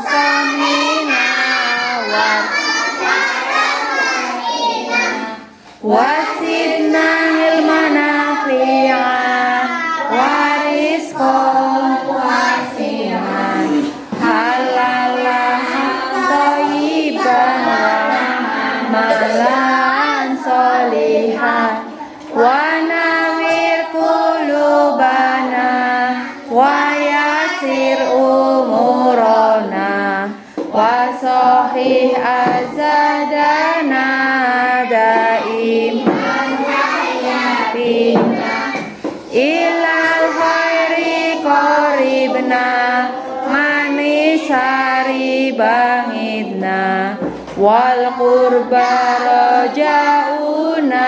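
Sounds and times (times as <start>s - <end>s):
children singing in unison: 0.0s - 51.0s.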